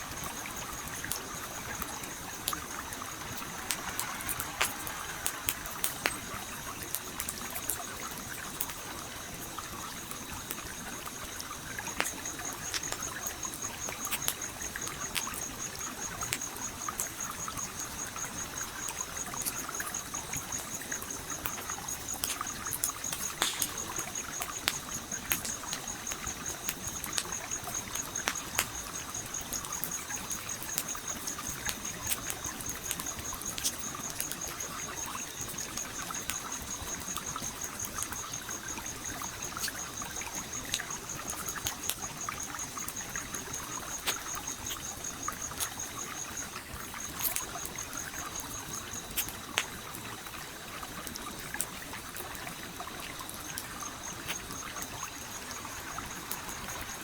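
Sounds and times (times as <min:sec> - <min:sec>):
campfire crackling: 0:00.0 - 0:57.0
stream flowing: 0:00.0 - 0:57.0.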